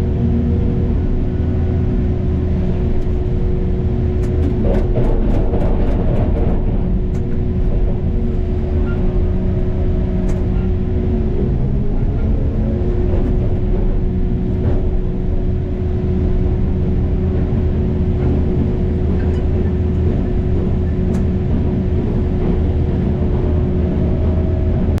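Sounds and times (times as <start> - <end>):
heavy machine engine rumbling: 0.0 - 25.0
steady whine: 0.0 - 25.0.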